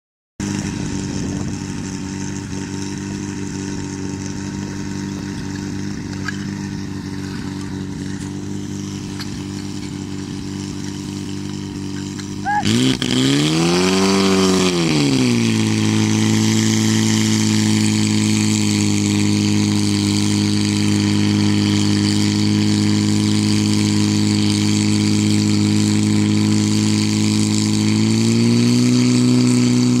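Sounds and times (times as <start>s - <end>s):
fire pump engine running: 0.4s - 30.0s.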